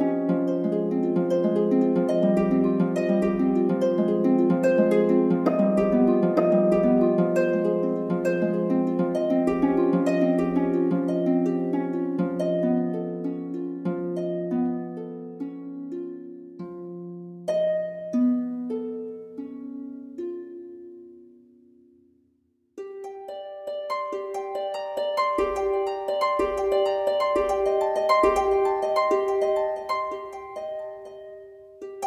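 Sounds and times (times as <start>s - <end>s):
plucked string notes: 0.0s - 21.8s, 22.8s - 32.0s.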